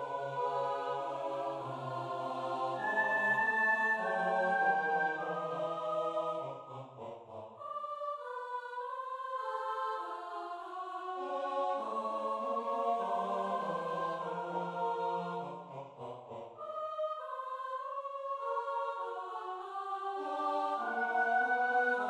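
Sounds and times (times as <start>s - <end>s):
a cappella choir singing: 0.0s - 22.0s.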